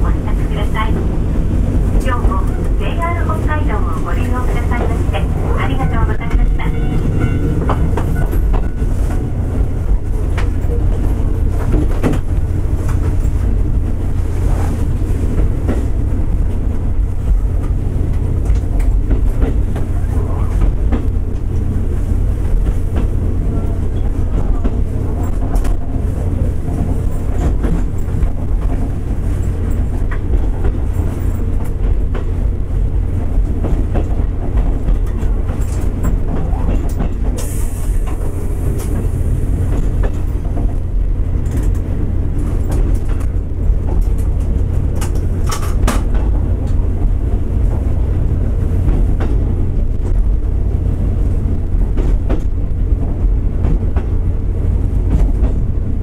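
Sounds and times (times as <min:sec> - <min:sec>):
train engine and wheels rumbling: 0:00.0 - 0:56.0.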